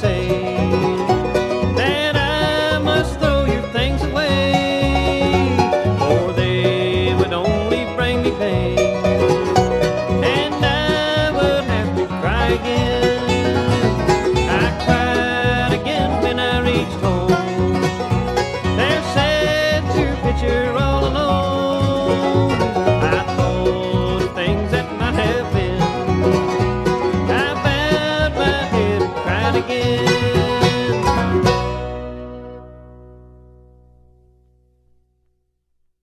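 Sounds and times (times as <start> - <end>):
sliding lead line: 0.0 - 32.1
acoustic bluegrass band playing: 0.0 - 34.3
banjo picking: 0.0 - 35.0
guitar picking: 0.0 - 35.2
bass: 0.0 - 36.0.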